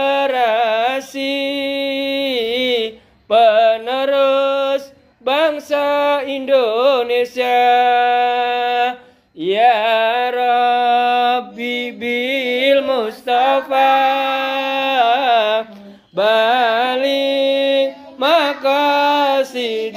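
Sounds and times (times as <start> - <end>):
person singing wordless chant: 0.0 - 19.9.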